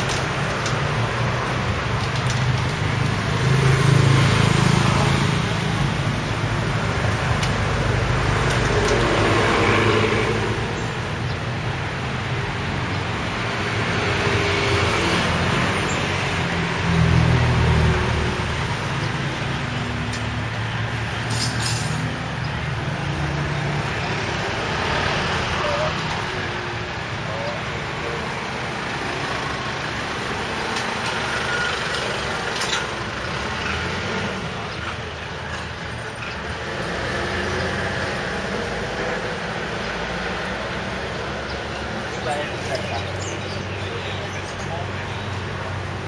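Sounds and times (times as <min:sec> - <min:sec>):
motor vehicles passing: 0:00.0 - 0:46.0.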